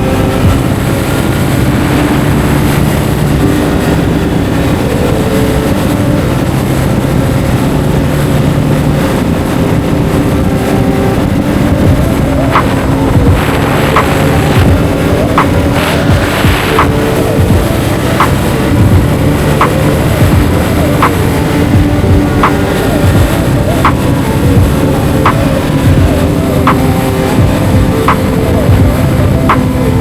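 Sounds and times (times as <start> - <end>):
motorcycle engine running: 0.0 - 30.0
wind rush of riding: 0.0 - 30.0.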